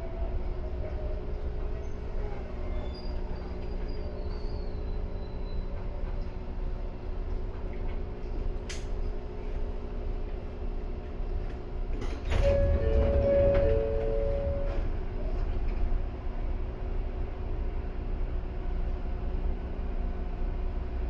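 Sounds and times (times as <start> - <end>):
train wheels and motors rumbling: 0.0 - 21.0.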